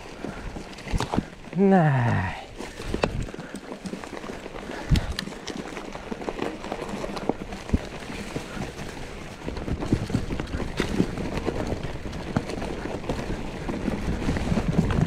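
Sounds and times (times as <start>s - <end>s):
bike tyre rushing noise: 0.0s - 15.0s.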